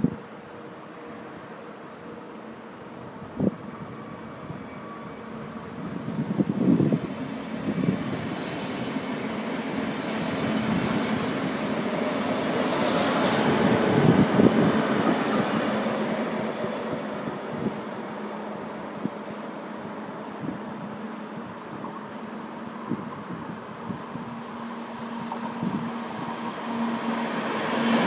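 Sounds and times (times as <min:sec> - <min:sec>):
train rolling past: 0:00.0 - 0:28.0.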